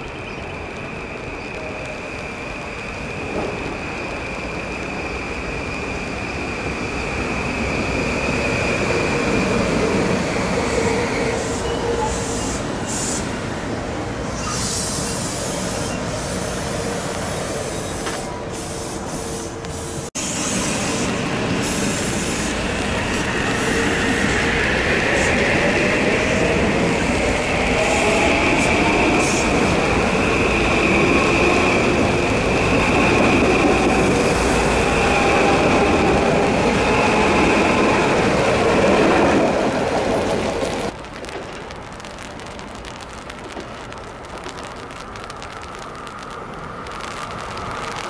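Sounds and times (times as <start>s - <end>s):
high whine of train: 0.0s - 42.0s, 44.2s - 48.0s
train wheels rumbling on rails: 0.0s - 48.0s.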